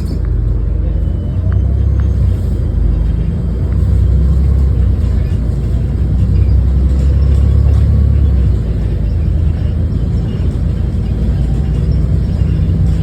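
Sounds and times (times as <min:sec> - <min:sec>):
diesel bus engine drone: 0:00.0 - 0:13.0.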